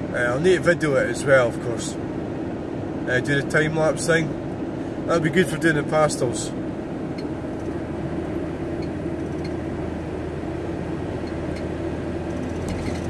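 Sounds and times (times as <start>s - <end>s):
engine and road noise hum: 0.0s - 13.0s.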